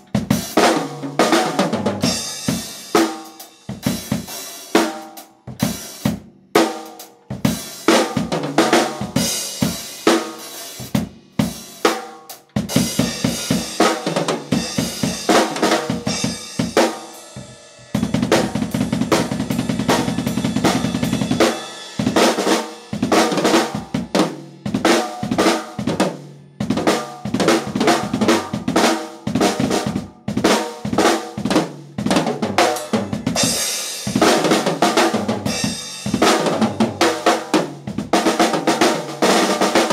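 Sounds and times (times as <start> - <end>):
drum kit played fast: 0.0 - 39.9
drum roll: 0.0 - 39.9.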